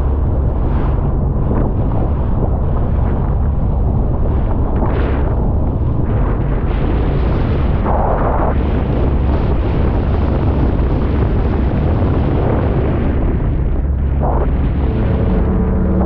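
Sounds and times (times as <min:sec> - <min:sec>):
personal watercraft engine rumble: 0:00.0 - 0:16.0
wind buffeting microphone: 0:00.0 - 0:16.0.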